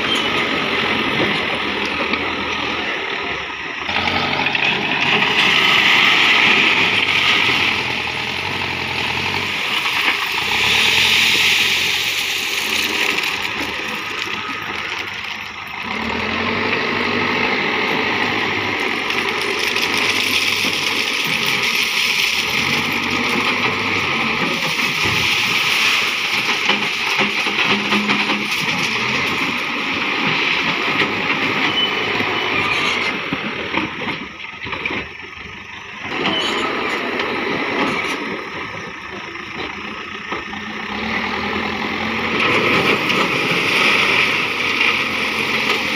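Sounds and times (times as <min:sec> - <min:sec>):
diesel engine running and revving: 0:00.0 - 0:45.9.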